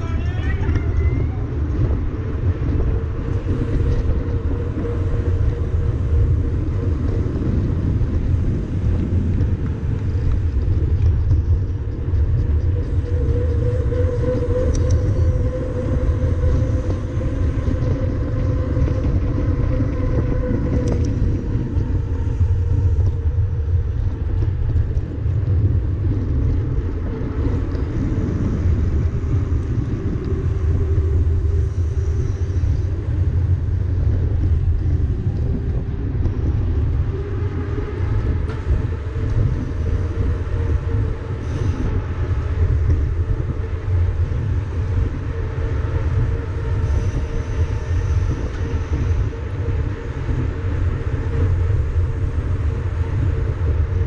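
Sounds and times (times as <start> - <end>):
faint wavering hum: 0.0 - 54.0
wind buffeting microphone: 0.0 - 54.0.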